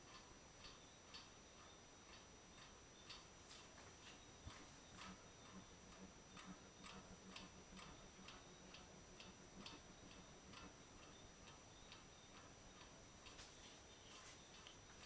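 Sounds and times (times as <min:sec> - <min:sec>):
ceiling fan ticking: 0:00.0 - 0:15.0
fan motor hum: 0:00.0 - 0:15.0.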